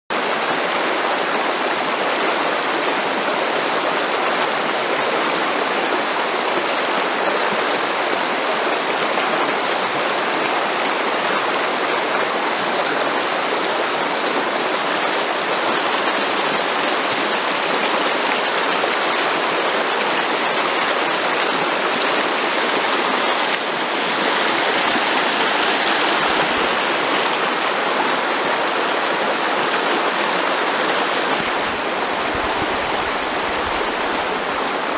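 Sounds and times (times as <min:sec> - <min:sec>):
river rushing over stones: 0:00.1 - 0:34.9.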